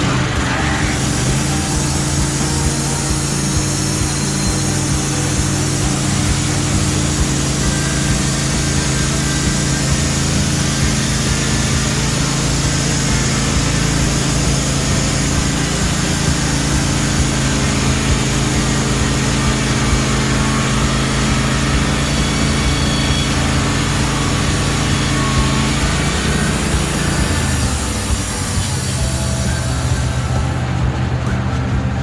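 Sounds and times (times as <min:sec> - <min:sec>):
band sawmill engine running: 0:00.0 - 0:32.0.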